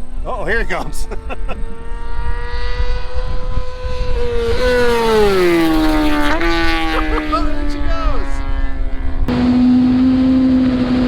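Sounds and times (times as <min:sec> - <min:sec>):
motorcycle engine at high revs: 0:01.0 - 0:11.0.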